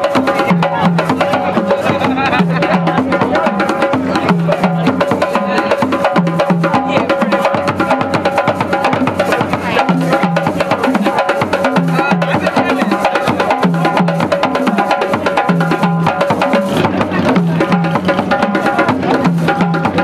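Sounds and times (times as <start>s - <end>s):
drums in fast rhythm: 0.0s - 20.0s.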